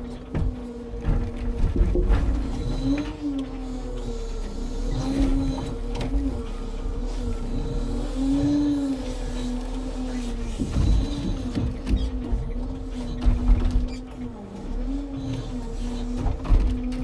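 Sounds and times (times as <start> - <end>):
hydraulics whining: 0.0 - 17.0
low engine rumble: 0.0 - 17.0.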